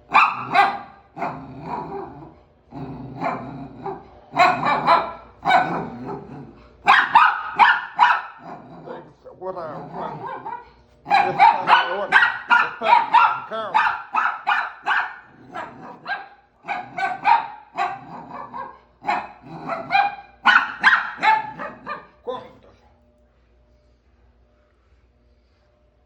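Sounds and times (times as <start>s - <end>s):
puppy barking: 0.0s - 2.2s, 3.2s - 22.7s.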